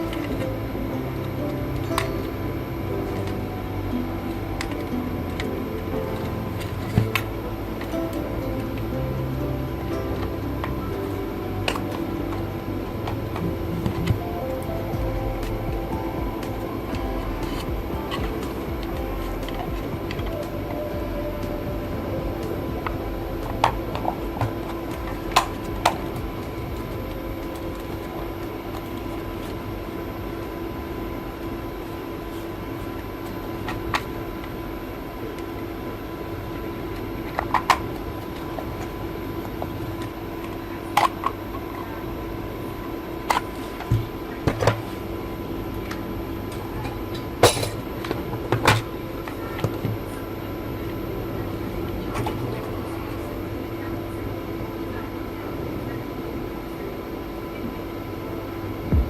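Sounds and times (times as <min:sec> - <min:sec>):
machine hum: 0:00.0 - 0:59.0.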